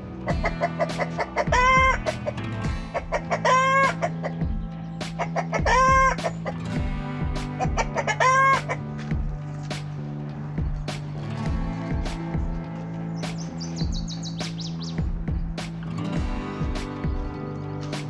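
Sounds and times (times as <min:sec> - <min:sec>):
low held chords: 0:00.0 - 0:18.0
ticking beat: 0:00.0 - 0:18.0.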